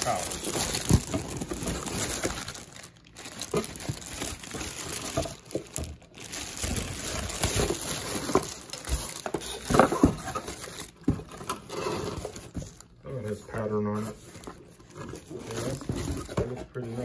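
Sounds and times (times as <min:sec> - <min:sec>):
plastic wrap crinkling: 0:00.0 - 0:17.0.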